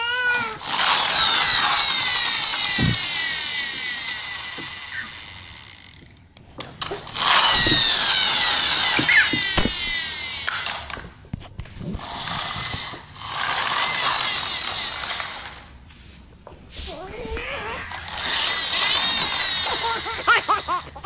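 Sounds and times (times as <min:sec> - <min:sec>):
toy wheels rolling on tile: 0:00.0 - 0:06.2, 0:06.8 - 0:11.2, 0:11.9 - 0:15.8, 0:17.2 - 0:21.0.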